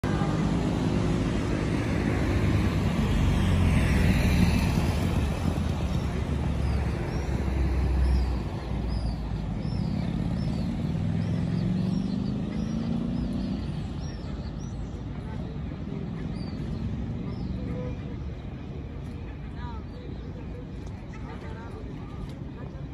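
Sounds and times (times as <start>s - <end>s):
vehicle engines passing: 0.0s - 22.9s.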